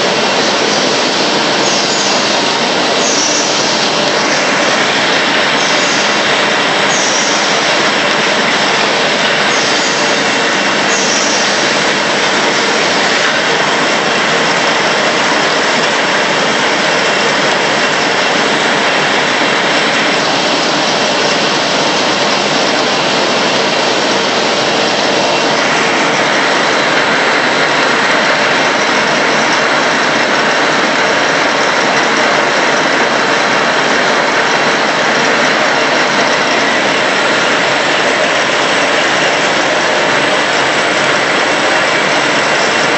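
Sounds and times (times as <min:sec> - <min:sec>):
paper cutting machine running: 0:00.0 - 0:42.9.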